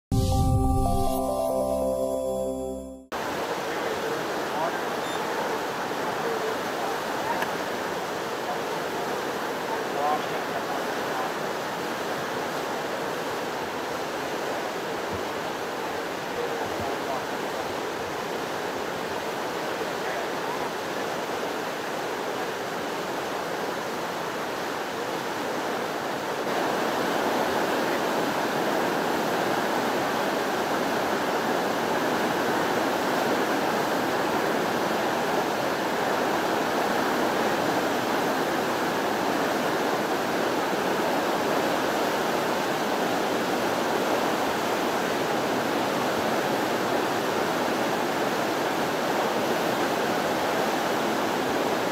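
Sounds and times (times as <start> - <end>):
water rushing over rocks: 3.2 - 51.9.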